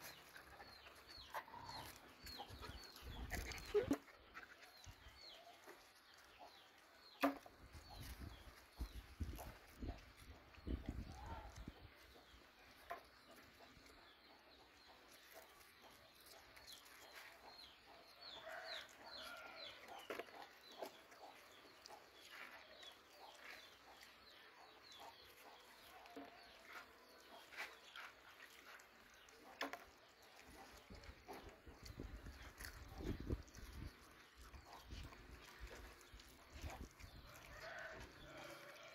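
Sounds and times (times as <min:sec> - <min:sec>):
dogs chewing and lapping: 0:00.0 - 0:38.9.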